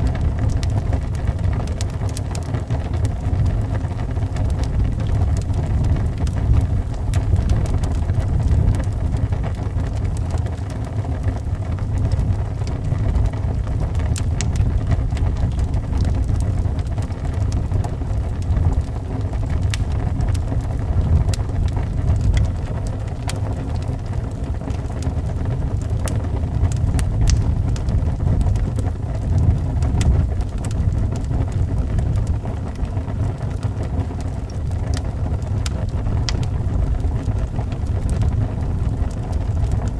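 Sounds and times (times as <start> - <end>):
wind rumbling around a house: 0.0 - 39.9
wood fire crackling: 0.0 - 39.9.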